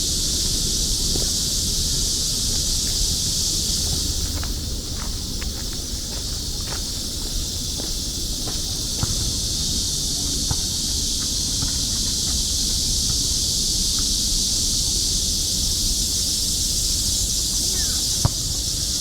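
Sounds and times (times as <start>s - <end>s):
cicadas singing: 0.0s - 19.0s.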